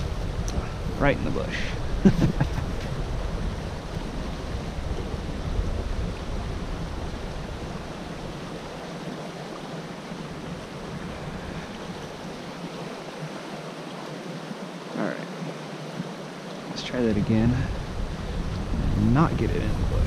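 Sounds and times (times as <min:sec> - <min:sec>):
wind buffeting microphone: 0:00.0 - 0:13.6, 0:15.9 - 0:20.0
running creek water: 0:00.0 - 0:20.0.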